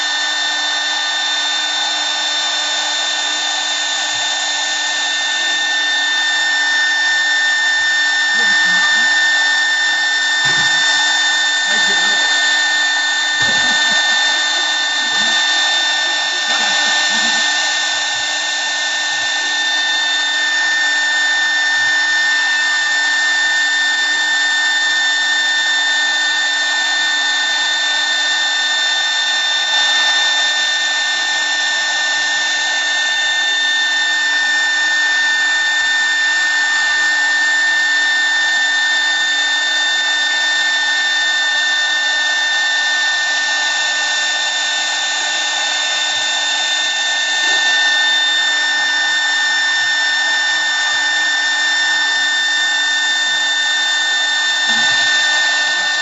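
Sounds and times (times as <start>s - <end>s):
wood lathe whining: 0.0s - 56.0s.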